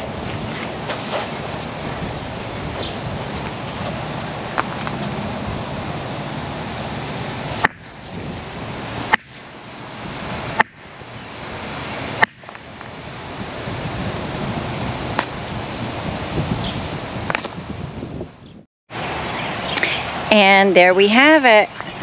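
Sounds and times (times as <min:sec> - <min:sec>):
wind noise on microphone: 0:00.0 - 0:20.4, 0:21.0 - 0:22.0.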